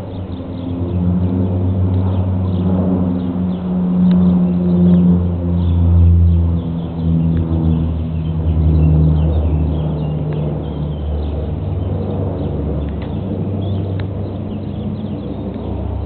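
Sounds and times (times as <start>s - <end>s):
turboprop engines droning overhead: 0.0s - 16.0s.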